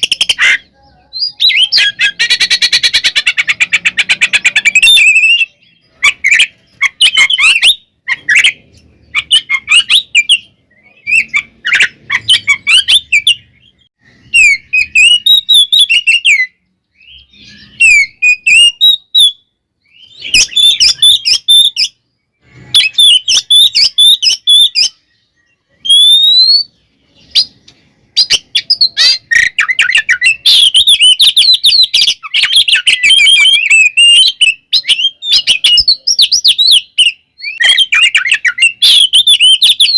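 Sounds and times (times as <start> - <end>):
bird whistling and chattering song: 0.0 - 39.9.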